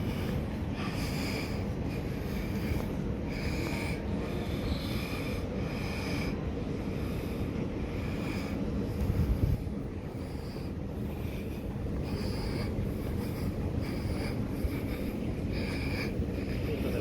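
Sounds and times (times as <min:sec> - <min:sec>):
low rumble of concourse: 0:00.0 - 0:17.0.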